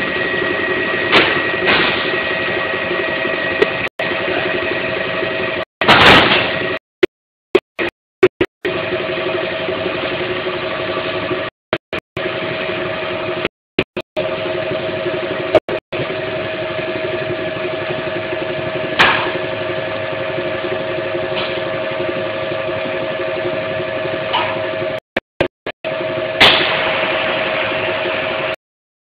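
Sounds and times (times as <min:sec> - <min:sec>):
machinery humming: 0:00.0 - 0:06.8, 0:08.6 - 0:25.0, 0:25.8 - 0:28.6.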